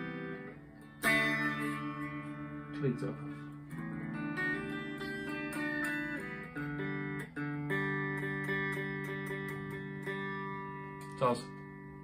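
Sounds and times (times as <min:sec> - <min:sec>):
clean electric guitar chords: 0:00.0 - 0:12.0.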